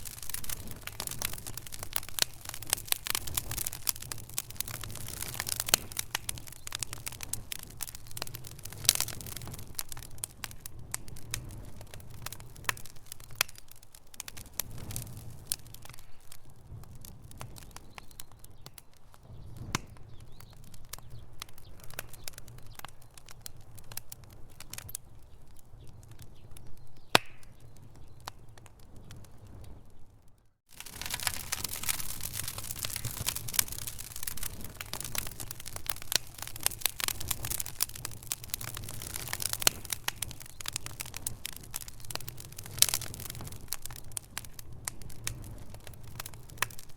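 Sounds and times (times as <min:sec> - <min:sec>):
low rumble of flames: 0:00.0 - 0:46.9
wood fire crackling: 0:00.0 - 0:46.9.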